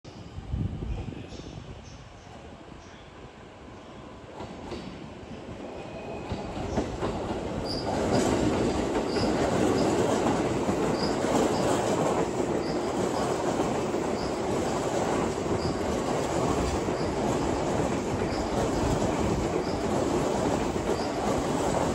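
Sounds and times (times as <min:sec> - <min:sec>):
electric train rumbling on rails: 0:00.1 - 0:21.9.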